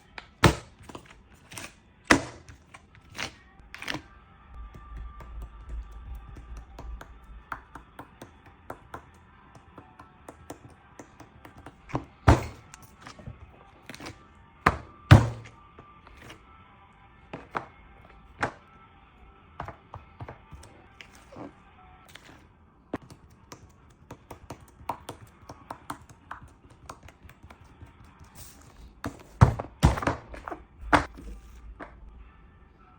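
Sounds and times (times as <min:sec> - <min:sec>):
soft background music: 0:00.0 - 0:32.9.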